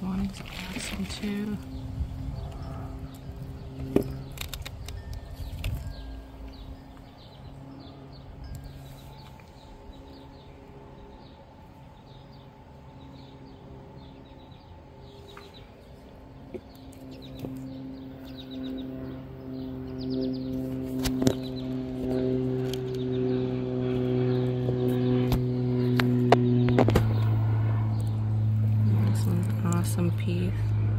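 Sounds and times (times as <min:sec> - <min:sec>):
small birds chirping: 0:00.0 - 0:30.7
low droning hum: 0:00.0 - 0:30.9.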